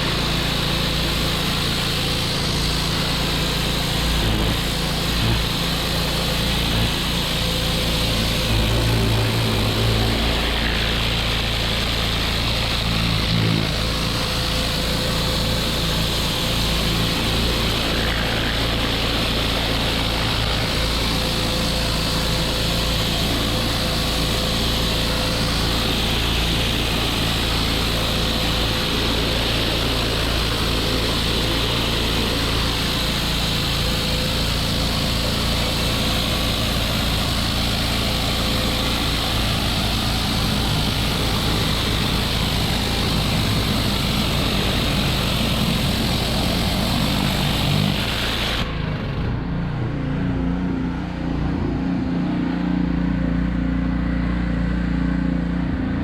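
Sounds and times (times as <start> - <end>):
water jet hissing on brick: 0.0 - 49.0
pressure washer engine running: 0.0 - 56.0.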